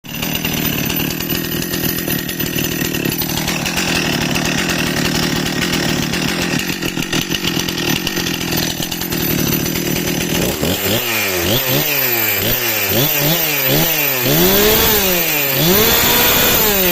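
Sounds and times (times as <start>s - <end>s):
chainsaw engine revving: 0.1s - 16.9s.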